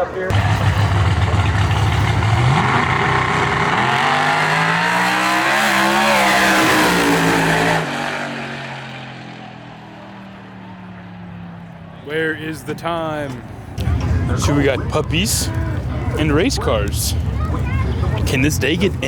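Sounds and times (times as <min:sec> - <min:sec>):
drag-race car engine accelerating: 0:00.3 - 0:11.8, 0:13.3 - 0:19.0.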